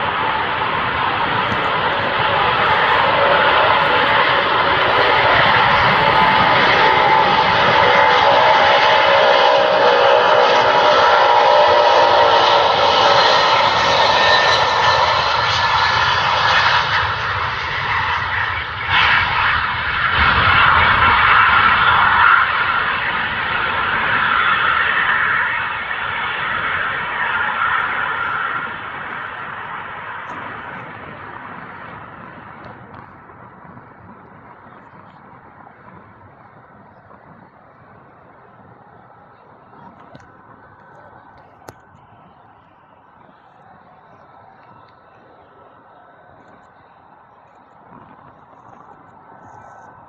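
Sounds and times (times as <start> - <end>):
jet engines roaring with whine: 0.0 - 50.0.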